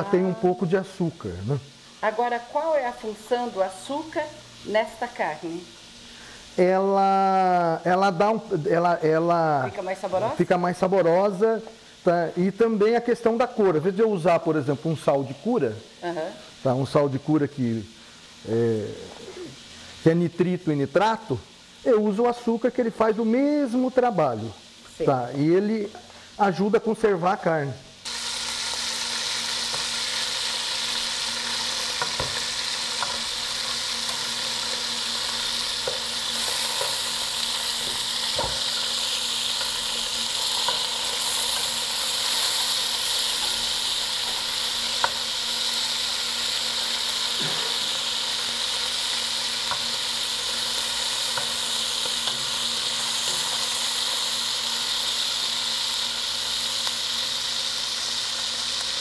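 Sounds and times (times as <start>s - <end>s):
sausage sizzling in fat: 0.0s - 59.0s.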